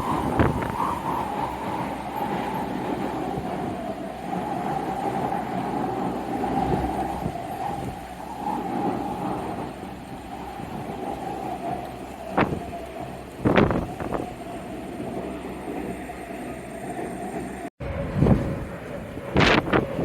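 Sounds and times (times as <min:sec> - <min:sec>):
jet engines whining: 0:00.0 - 0:20.0
wind buffeting microphone: 0:00.0 - 0:20.0.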